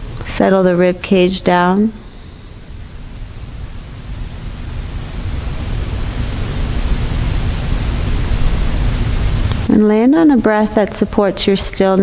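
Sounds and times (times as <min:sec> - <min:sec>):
low rushing noise: 0:00.0 - 0:11.6
faint low hum: 0:00.0 - 0:12.0.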